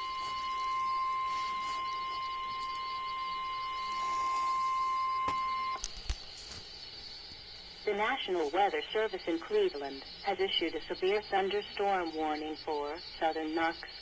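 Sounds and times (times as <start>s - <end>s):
high-pitched alarm tone: 0.0s - 5.8s, 6.8s - 14.0s.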